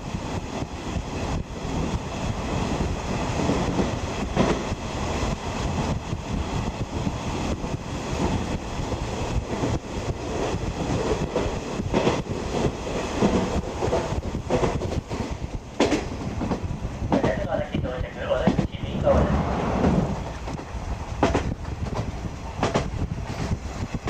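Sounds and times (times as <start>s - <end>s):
train coach rumble: 0.0s - 24.0s.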